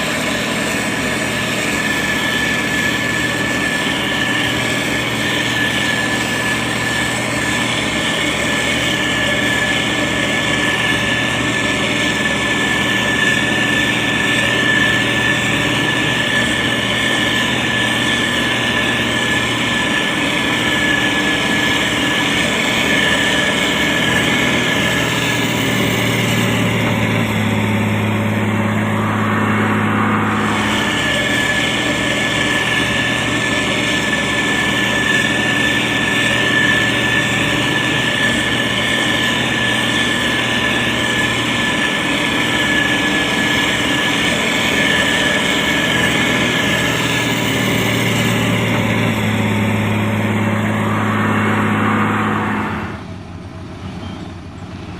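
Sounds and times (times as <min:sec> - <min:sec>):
diesel engine running: 0:00.0 - 0:54.9
steady high whine: 0:00.0 - 0:54.9.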